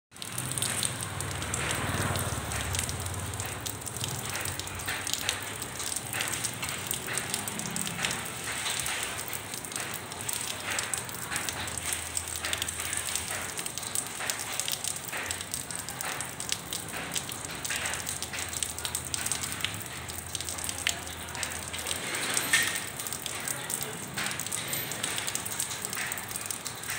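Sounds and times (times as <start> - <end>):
rain splashing into puddle: 0.1 - 26.9.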